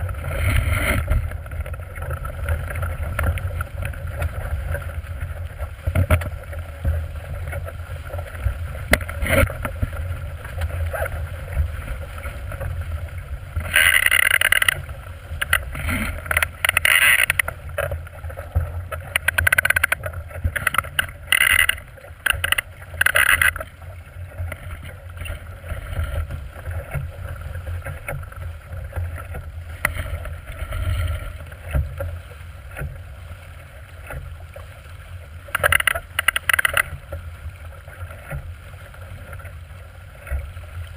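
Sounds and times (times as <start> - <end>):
water splashing along hull: 0.0 - 40.9
wind rumbling on microphone: 0.0 - 40.9.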